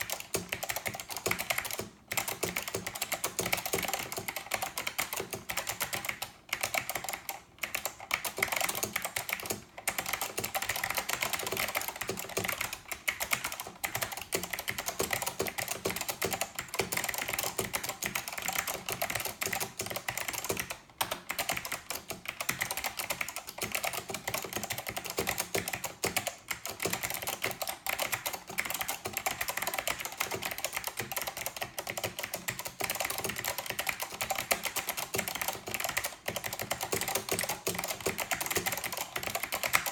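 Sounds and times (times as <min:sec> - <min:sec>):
fast typing on clicky keyboard: 0:00.0 - 0:39.9.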